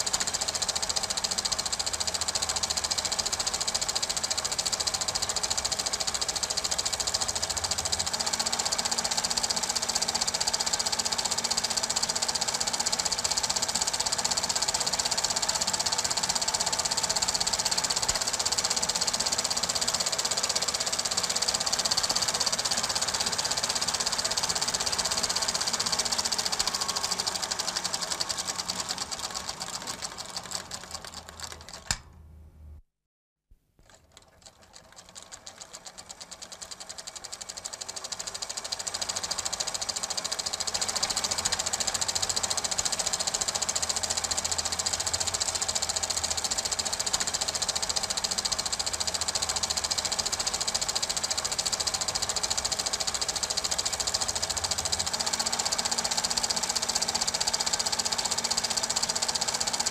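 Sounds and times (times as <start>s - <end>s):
film projector clattering: 0.0s - 32.1s, 33.8s - 59.9s.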